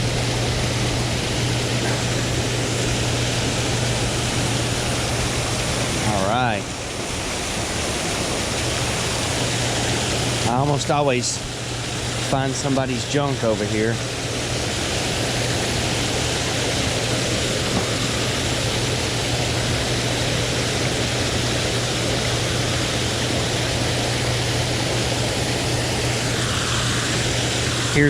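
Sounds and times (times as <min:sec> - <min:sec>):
constant low hum: 0:00.0 - 0:28.0
water rushing below a dam: 0:00.0 - 0:28.0.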